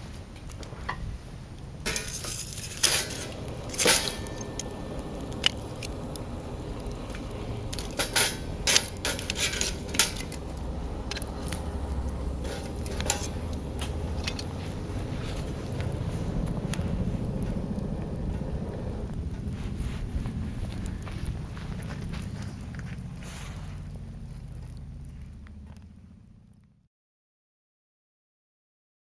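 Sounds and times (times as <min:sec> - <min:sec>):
low rumble of stove: 0:00.0 - 0:26.9
wood fire popping and clicking: 0:00.3 - 0:26.7.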